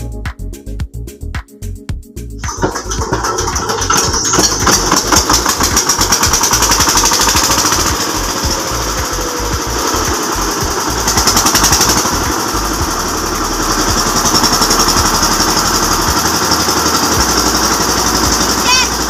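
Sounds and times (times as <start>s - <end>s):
single-cylinder diesel engine knocking: 2.4s - 19.0s.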